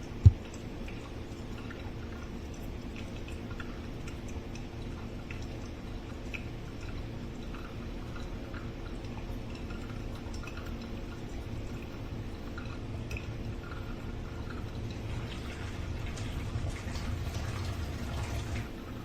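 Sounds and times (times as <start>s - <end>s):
coffee dripping: 0.0s - 19.0s
steady low hum: 0.0s - 19.0s.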